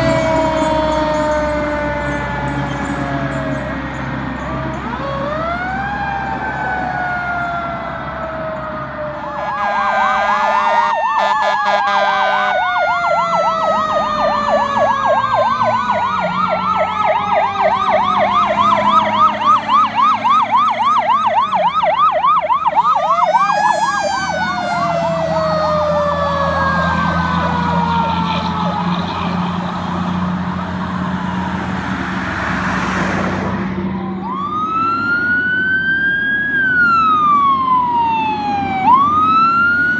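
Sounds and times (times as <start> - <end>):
fire engine sirens wailing: 0.0 - 39.9
truck engines droning: 0.0 - 39.9.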